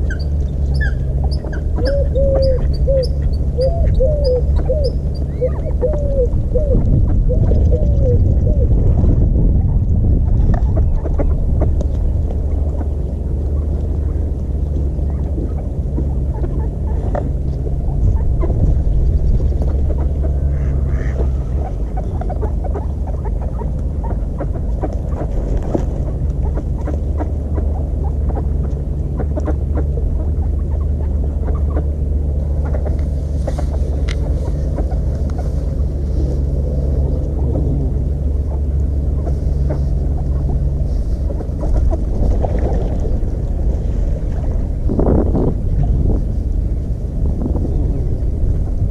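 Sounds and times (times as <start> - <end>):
steady low rumble: 0.0 - 48.9.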